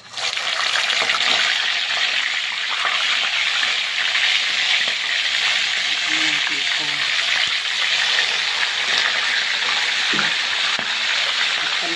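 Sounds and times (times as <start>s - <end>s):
fish sizzling in hot oil: 0.0s - 11.9s.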